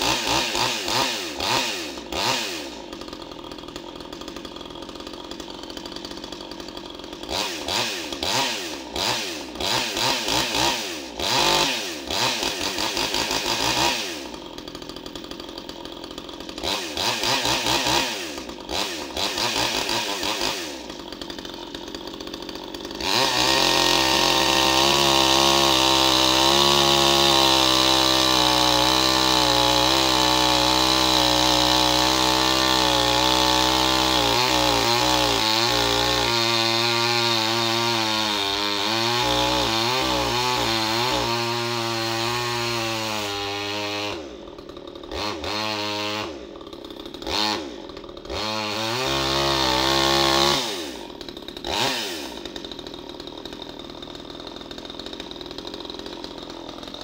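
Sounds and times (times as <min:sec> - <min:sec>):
chainsaw cutting log: 0:00.0 - 0:57.0
chainsaw idling and revving: 0:00.0 - 0:57.0.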